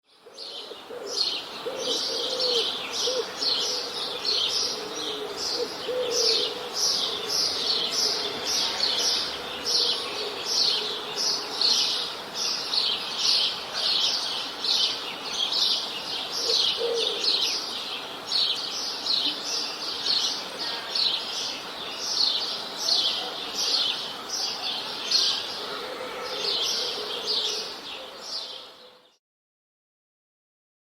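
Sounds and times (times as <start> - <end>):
small songbirds chirping: 0.1 - 25.8.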